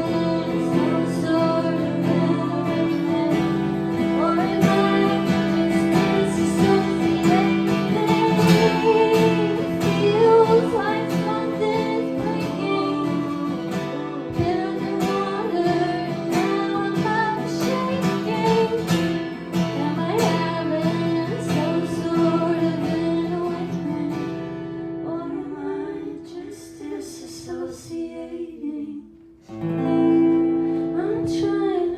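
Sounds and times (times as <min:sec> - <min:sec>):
acoustic guitar strumming: 0:00.0 - 0:26.5, 0:29.5 - 0:31.9
woman singing: 0:00.0 - 0:31.9.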